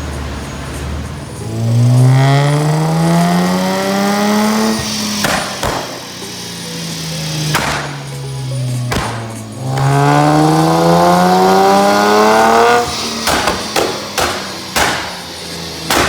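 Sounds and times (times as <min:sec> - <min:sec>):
car engine revving: 0:00.0 - 0:16.0
sharp exhaust bangs: 0:00.0 - 0:16.0.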